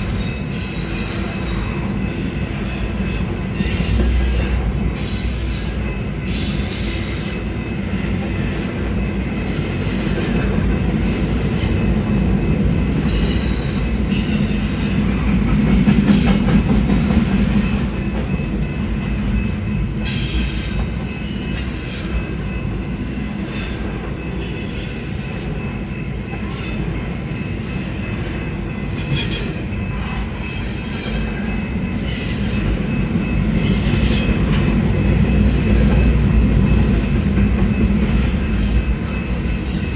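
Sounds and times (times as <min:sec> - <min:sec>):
freight railcars rumbling: 0:00.0 - 0:39.9.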